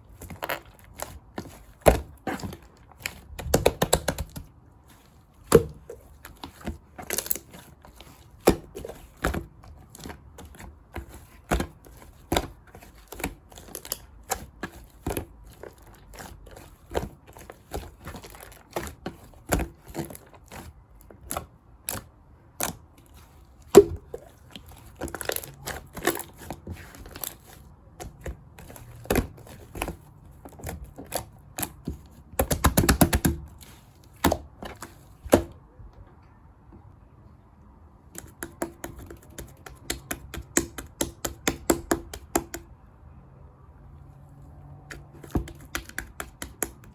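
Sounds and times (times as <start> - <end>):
slime squishing with sticky clicks: 0.1 - 36.1, 38.1 - 42.7, 44.9 - 46.9.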